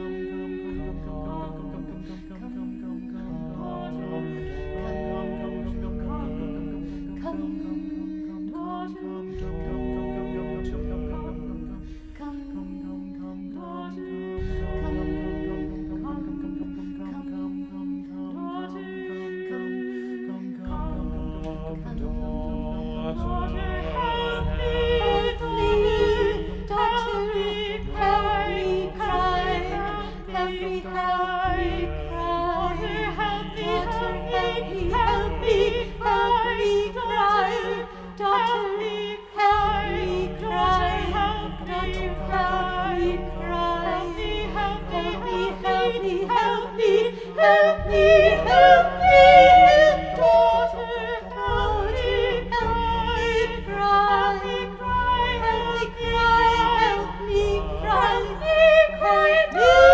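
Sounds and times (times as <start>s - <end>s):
vocal quartet singing in harmony: 0.0s - 59.9s.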